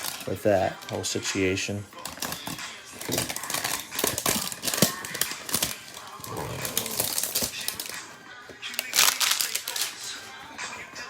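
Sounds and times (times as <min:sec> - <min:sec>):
cards and packaging rustling: 0:00.0 - 0:11.0.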